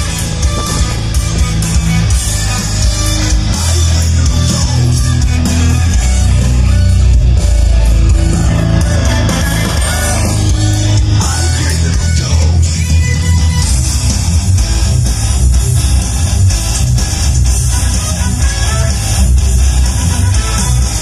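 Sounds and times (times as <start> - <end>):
loud guitar music with heavy bass: 0.0 - 21.0.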